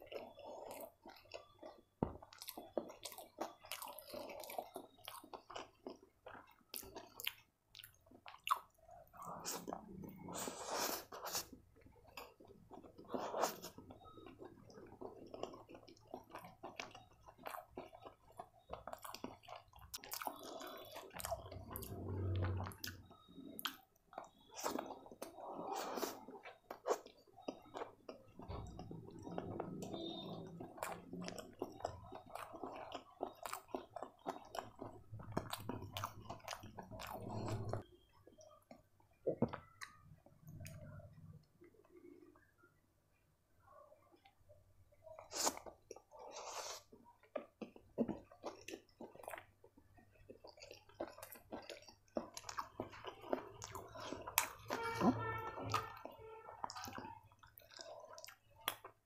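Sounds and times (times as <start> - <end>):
close chewing mouth noises: 0.0 - 42.6, 45.0 - 59.0.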